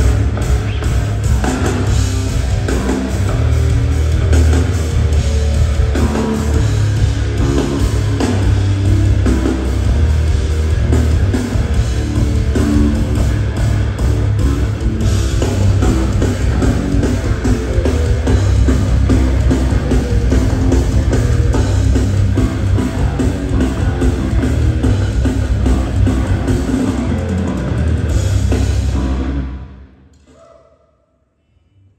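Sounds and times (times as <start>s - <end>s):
electric guitar: 0.0s - 29.8s
heavy bass line: 0.0s - 30.1s
drums: 0.0s - 30.3s.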